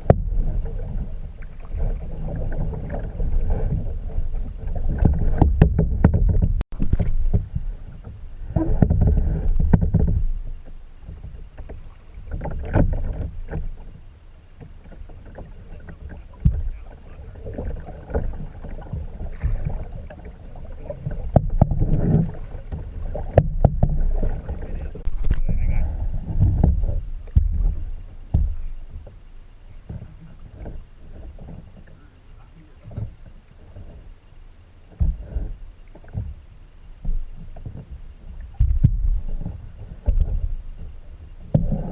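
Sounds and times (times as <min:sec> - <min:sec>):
low rumble: 0:00.0 - 0:12.2, 0:16.3 - 0:41.9
water and paddling: 0:00.0 - 0:41.9.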